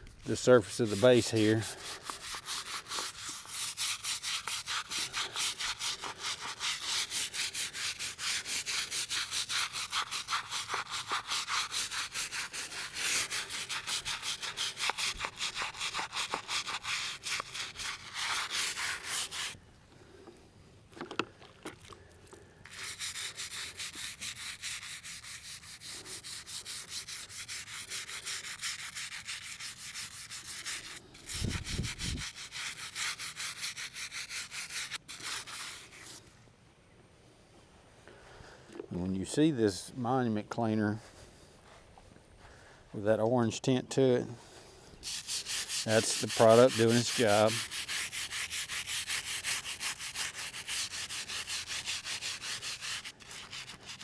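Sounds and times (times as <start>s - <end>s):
stiff brush scrubbing stone: 0.0s - 19.6s, 20.9s - 36.3s, 45.0s - 54.0s.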